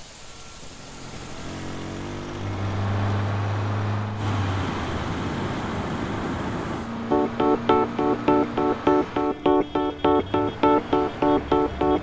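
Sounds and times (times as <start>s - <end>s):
passing traffic road noise: 0.6s - 12.0s
car engine hum: 0.7s - 12.0s.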